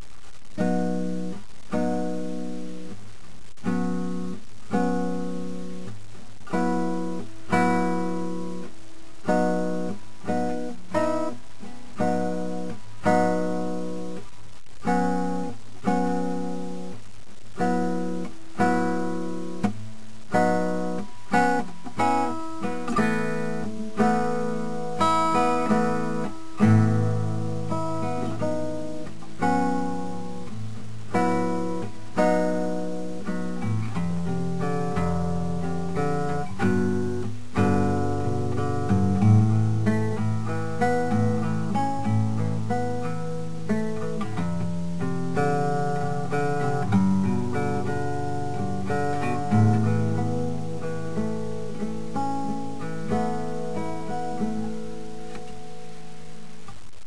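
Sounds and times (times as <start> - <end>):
acoustic guitar playing: 0.0 - 57.0.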